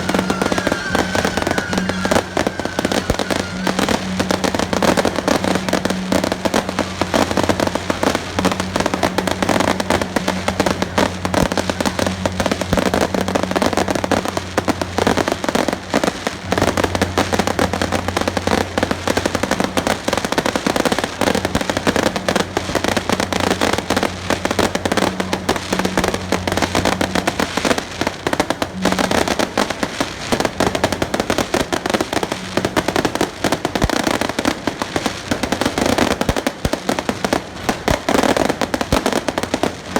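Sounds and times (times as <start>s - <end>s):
firecrackers going off: 0.0s - 39.9s
low steady hum: 0.0s - 39.9s.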